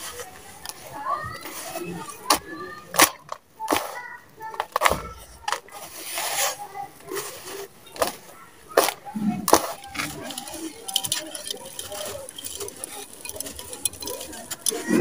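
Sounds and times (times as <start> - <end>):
hands crumbling dry soil: 0.0 - 15.0.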